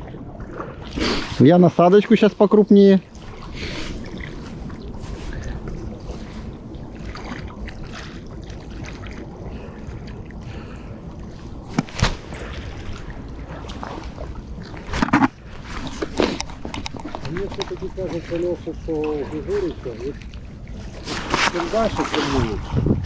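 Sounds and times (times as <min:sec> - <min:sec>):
wind rumble on microphone: 0:02.7 - 0:23.0.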